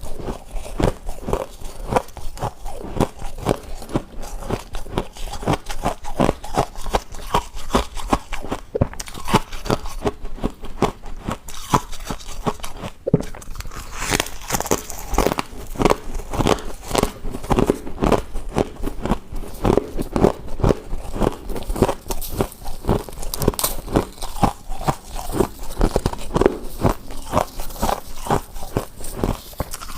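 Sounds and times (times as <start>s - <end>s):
crunching and chewing ice: 0.0s - 29.9s.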